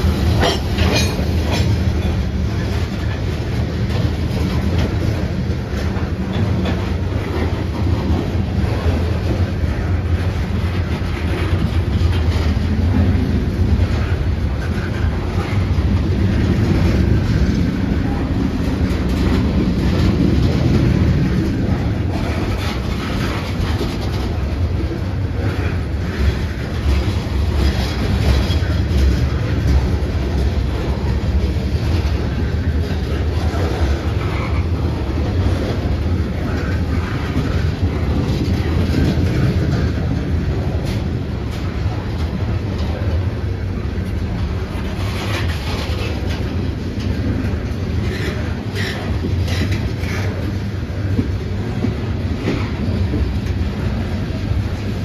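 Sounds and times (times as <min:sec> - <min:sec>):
train cars rumbling: 0:00.0 - 0:55.0
wheels clicking over rails: 0:00.0 - 0:55.0.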